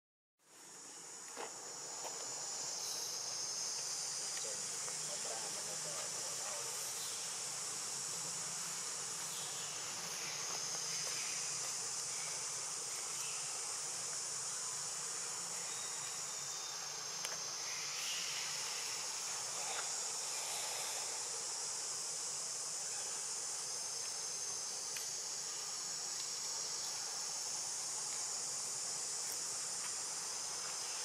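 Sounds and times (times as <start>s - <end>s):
insects droning: 0.4s - 31.0s.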